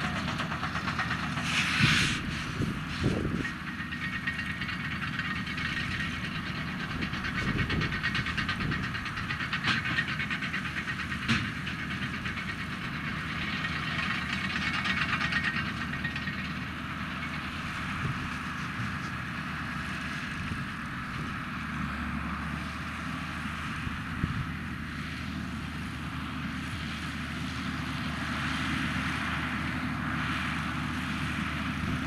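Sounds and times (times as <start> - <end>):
diesel farm machinery running: 0.0 - 32.0.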